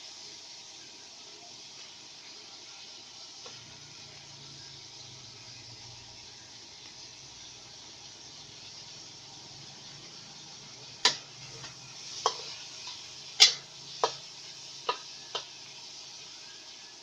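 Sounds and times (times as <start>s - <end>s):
seafood sizzling in a hot pan: 0.0s - 17.0s.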